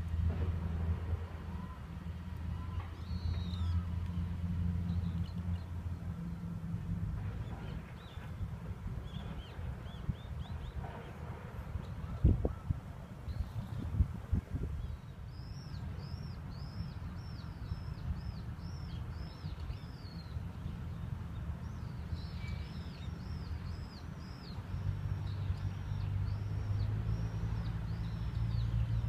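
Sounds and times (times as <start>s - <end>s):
vehicle engine hum: 0.0s - 12.1s, 13.2s - 29.0s
low outdoor rumble: 0.0s - 29.0s.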